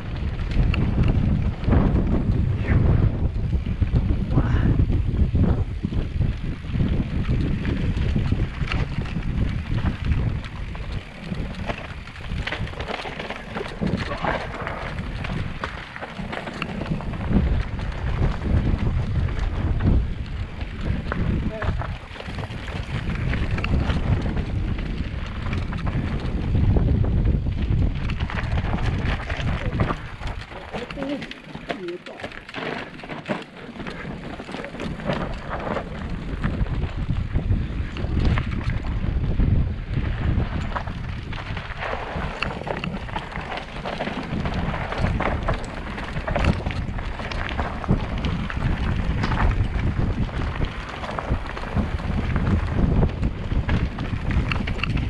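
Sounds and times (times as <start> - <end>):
wind buffeting microphone: 0.0 - 55.0
steps on rocky ground: 6.4 - 55.0.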